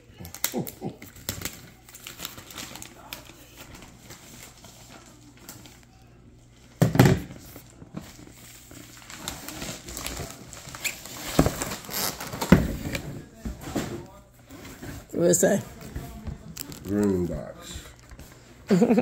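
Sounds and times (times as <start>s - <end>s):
cardboard and packaging rustling: 0.2s - 19.0s.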